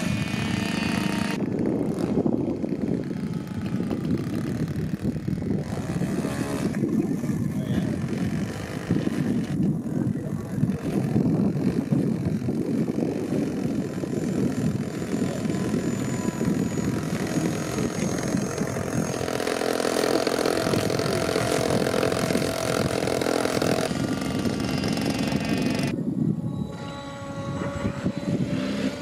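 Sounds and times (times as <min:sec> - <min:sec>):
propeller motor running: 0:00.0 - 0:29.0.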